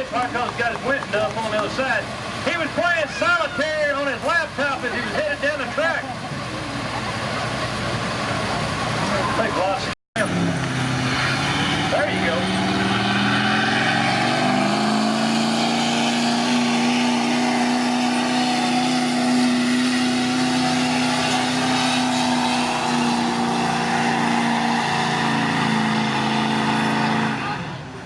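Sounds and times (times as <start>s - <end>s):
pickup truck engine at high revs: 0.0s - 28.0s.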